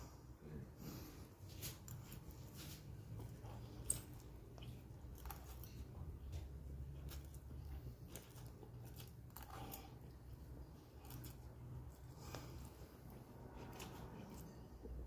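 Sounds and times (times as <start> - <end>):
low steady hum: 0.0 - 15.0
person chewing: 1.5 - 15.0.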